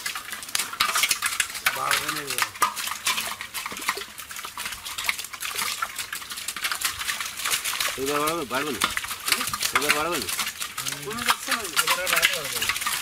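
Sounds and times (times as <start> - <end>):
shrimp splashing in shallow water: 0.0 - 13.0.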